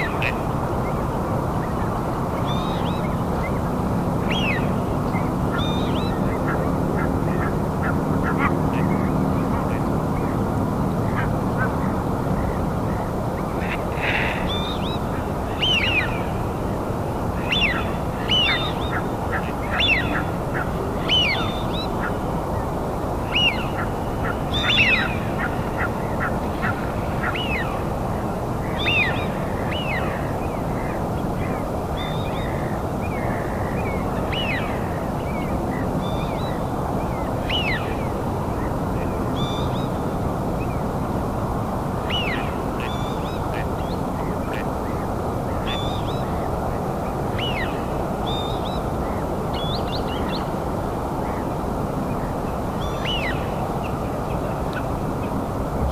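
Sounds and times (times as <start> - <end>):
birds calling: 0.0 - 41.0, 42.0 - 55.9
steady background noise: 0.0 - 55.9.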